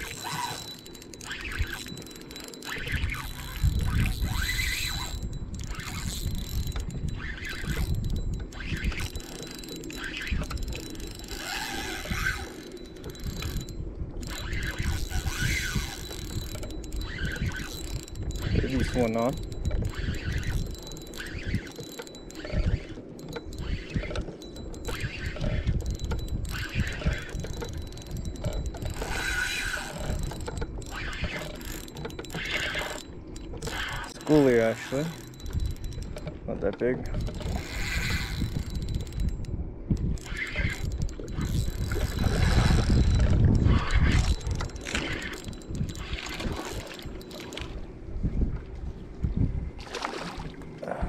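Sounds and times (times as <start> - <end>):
fishing reel gears clicking: 0.0 - 47.8
wind buffeting microphone: 0.0 - 51.0.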